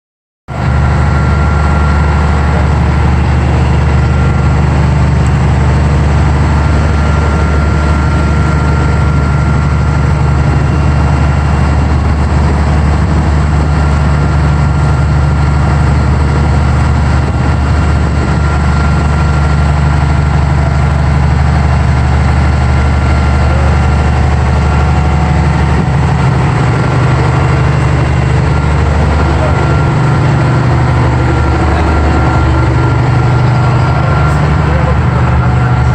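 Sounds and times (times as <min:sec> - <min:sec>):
ferry engine droning: 0:00.5 - 0:35.9.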